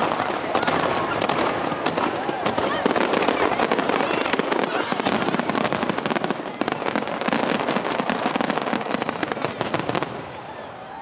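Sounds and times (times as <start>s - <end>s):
fireworks cracking and banging: 0.0s - 10.6s.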